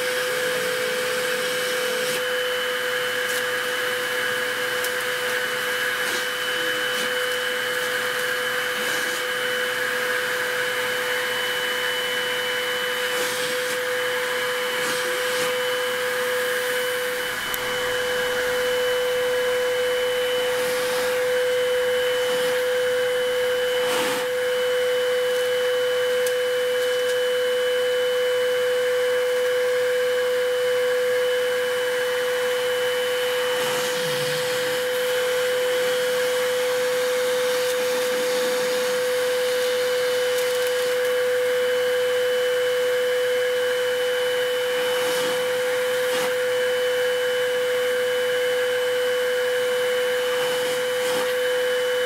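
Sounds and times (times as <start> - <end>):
vacuum motor whine: 0.0 - 52.0.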